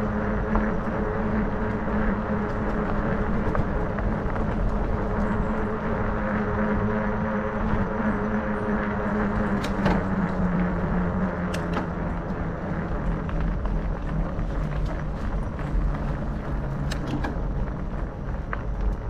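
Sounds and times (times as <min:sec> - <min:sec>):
knobby bike tyres humming: 0:00.0 - 0:19.0
low rumble: 0:00.0 - 0:19.0.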